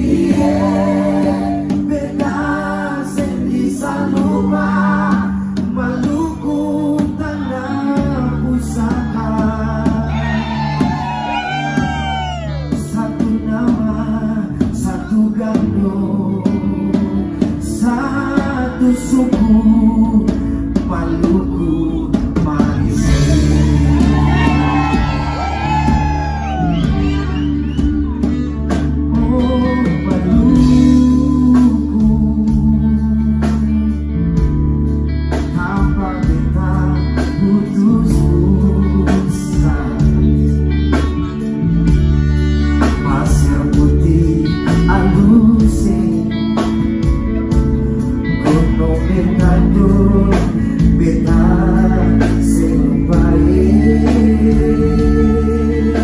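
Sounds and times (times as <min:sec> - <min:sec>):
person singing: 0:00.0 - 0:34.6, 0:35.3 - 0:56.0
continuous bass: 0:00.0 - 0:56.0
guitar: 0:00.0 - 0:56.0.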